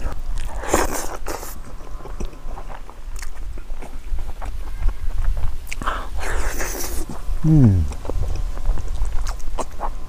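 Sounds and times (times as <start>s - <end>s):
chewing and lip-smacking: 0.0s - 7.2s, 7.9s - 10.0s.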